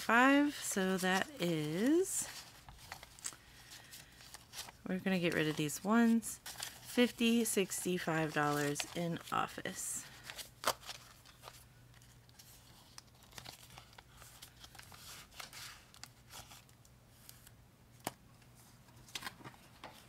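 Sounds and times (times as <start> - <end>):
paper banknotes rustling: 0.0 - 17.5
plastic pouches crinkling: 0.2 - 16.8.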